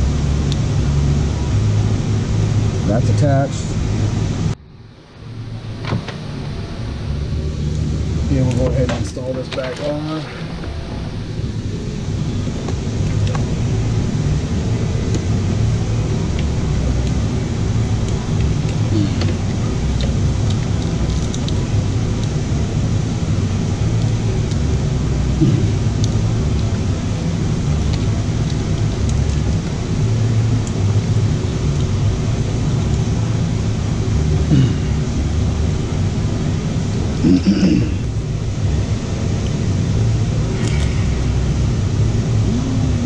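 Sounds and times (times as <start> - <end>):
low rumble: 0.0 - 43.0.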